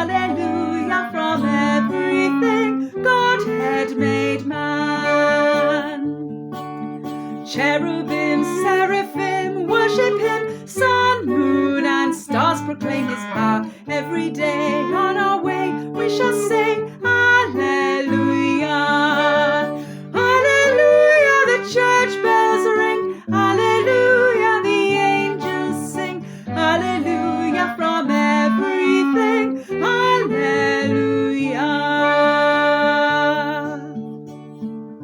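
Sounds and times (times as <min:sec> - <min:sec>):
carol sung with instruments: 0:00.0 - 0:06.3, 0:07.4 - 0:34.0.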